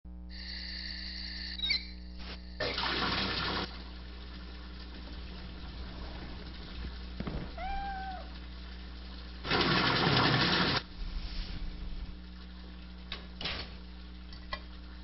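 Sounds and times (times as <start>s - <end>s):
low steady hum: 0.1s - 9.5s, 10.7s - 15.0s.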